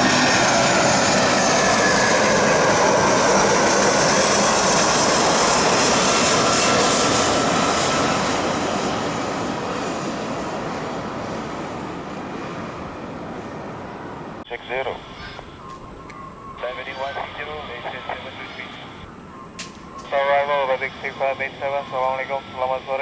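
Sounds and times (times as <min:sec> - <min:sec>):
jet airliner passing: 0:00.0 - 0:23.0.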